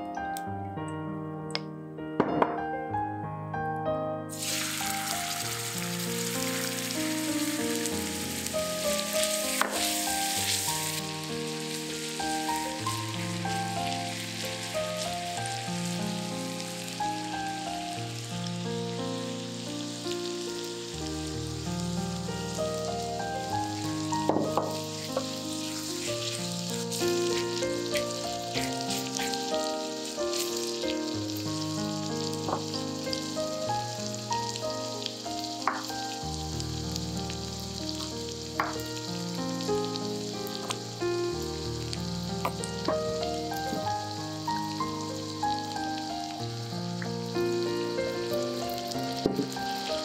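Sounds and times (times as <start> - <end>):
soft background music: 0.0 - 50.0
onion sizzling in oil: 4.3 - 50.0
oil popping and crackling: 4.4 - 50.0.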